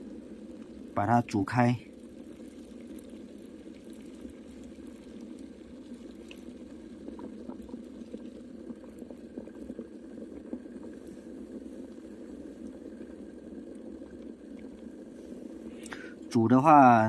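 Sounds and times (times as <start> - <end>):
water boiling in a pot: 0.0 - 17.0.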